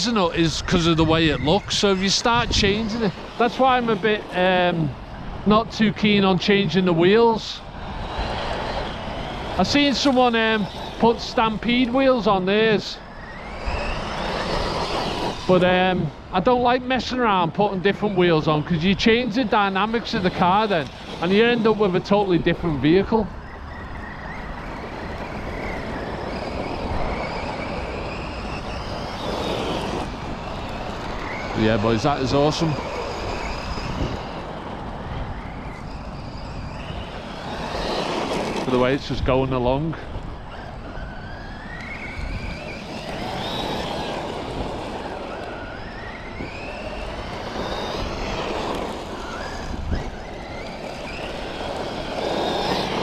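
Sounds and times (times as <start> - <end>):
electric motor whine: 0.0 - 53.0
steady rushing noise: 0.0 - 53.0.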